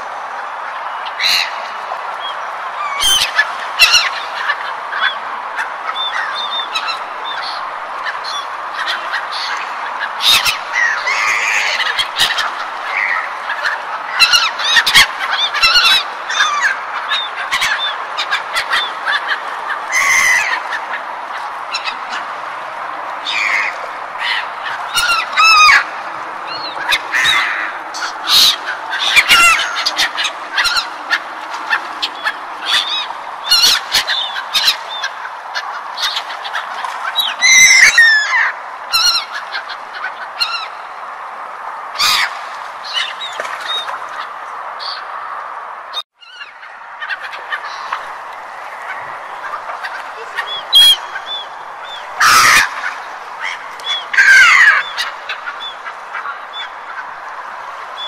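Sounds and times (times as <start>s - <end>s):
gulls calling: 0.0s - 58.0s
steady background noise: 0.0s - 58.0s.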